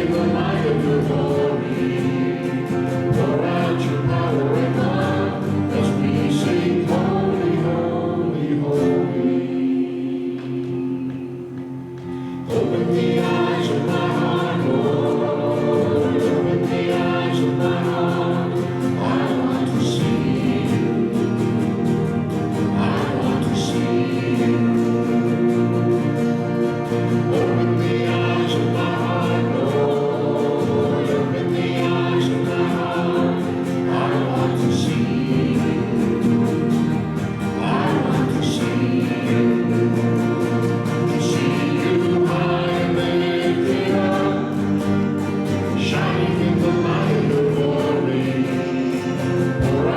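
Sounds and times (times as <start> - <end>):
group singing a hymn: 0.0 - 49.9.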